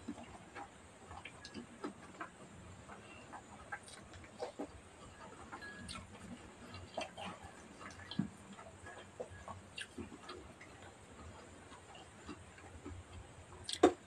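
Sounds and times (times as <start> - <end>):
chewing smacks: 0.0 - 14.0.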